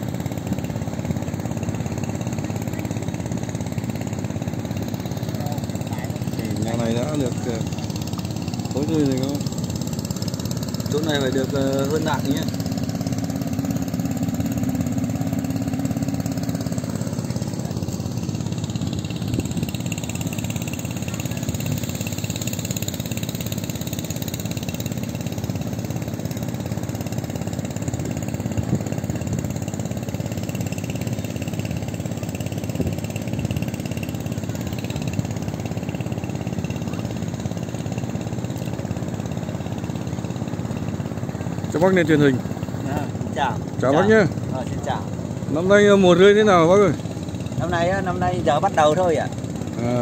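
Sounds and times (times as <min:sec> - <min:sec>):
engine running steadily: 0:00.0 - 0:50.0.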